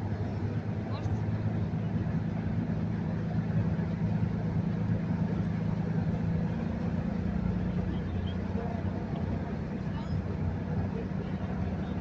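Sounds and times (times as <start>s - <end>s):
ship diesel engines droning: 0.0s - 12.0s.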